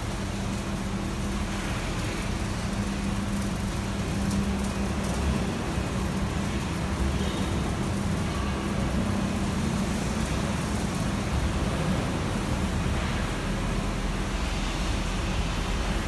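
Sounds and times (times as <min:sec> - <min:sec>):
road traffic: 0:00.2 - 0:16.0.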